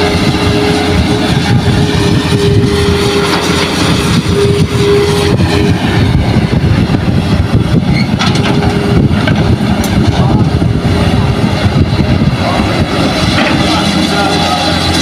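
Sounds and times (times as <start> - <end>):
excavator diesel engine under load: 0.0 - 15.0
steady whine: 0.0 - 15.0.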